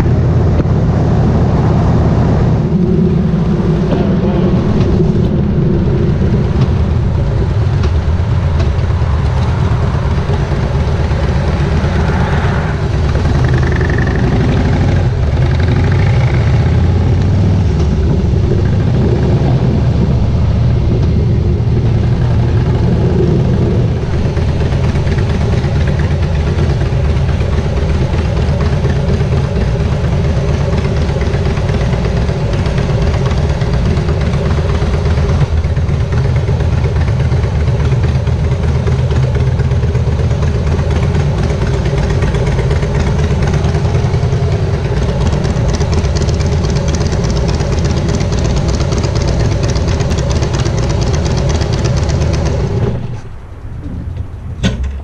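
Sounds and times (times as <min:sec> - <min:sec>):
motorcycle engine idling: 0:03.9 - 0:53.0.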